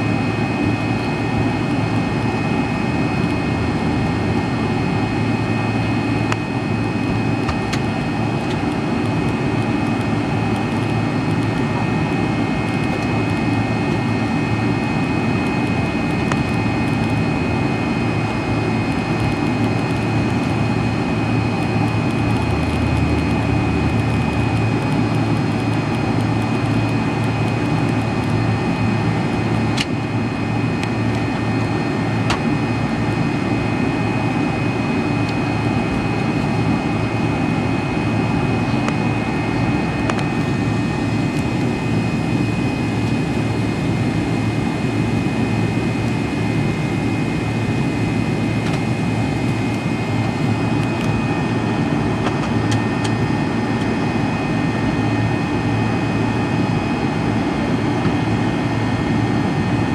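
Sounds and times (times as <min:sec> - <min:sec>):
high engine whine: 0:00.0 - 0:59.9
jet engines running at low power: 0:00.0 - 0:59.9.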